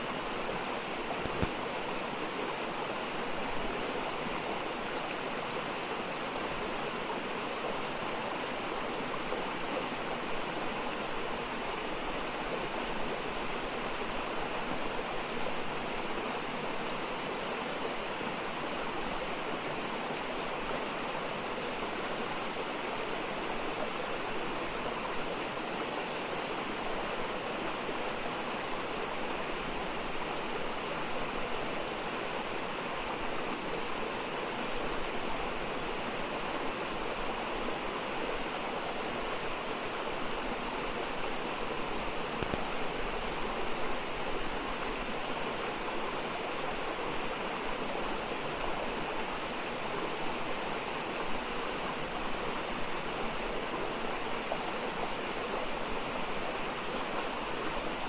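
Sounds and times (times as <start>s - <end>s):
stream flowing water: 0.0s - 58.0s.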